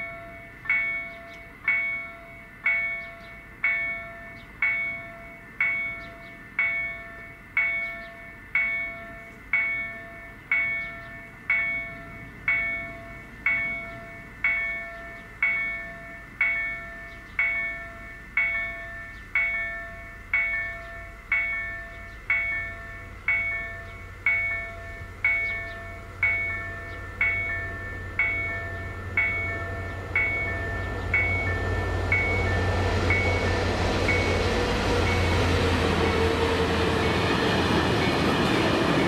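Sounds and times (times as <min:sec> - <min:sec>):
level crossing bell ringing: 0:00.0 - 0:34.4.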